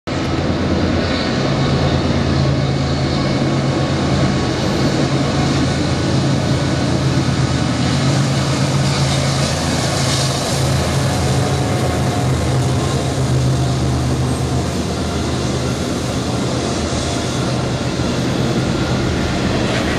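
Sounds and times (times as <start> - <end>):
diesel locomotive engine drone: 0.1 - 19.9
freight train passing: 0.1 - 19.9.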